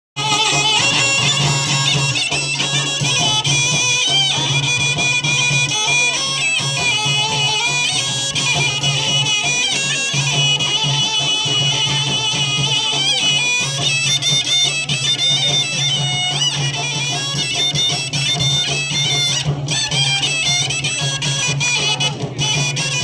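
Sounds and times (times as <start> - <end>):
shrill reed pipe melody: 0.2 - 23.0.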